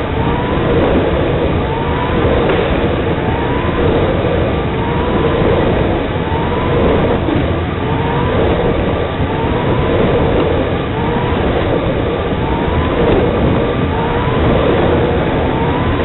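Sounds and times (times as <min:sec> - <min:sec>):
electric motor whine: 0:00.0 - 0:16.0
wind and tyre noise: 0:00.0 - 0:16.0.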